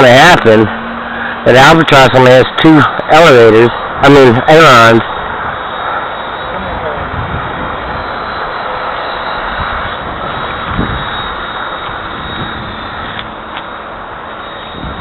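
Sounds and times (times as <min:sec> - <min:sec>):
model airplane motor buzzing: 0:00.0 - 0:15.0.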